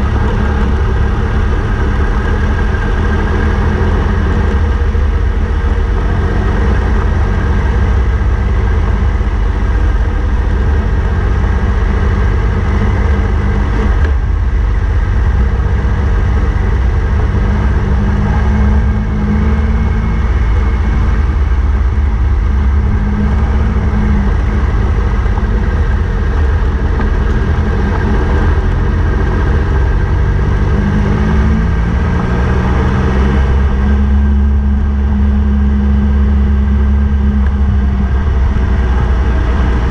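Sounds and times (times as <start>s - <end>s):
motorcycle engine running: 0.0s - 39.9s
wind and tyres on gravel: 0.0s - 39.9s.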